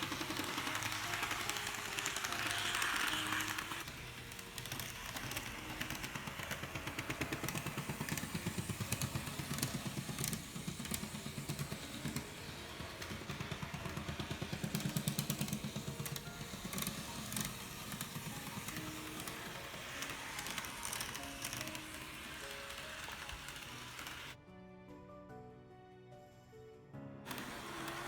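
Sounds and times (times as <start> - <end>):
model train motor clattering: 0.0 - 24.4, 27.3 - 28.0.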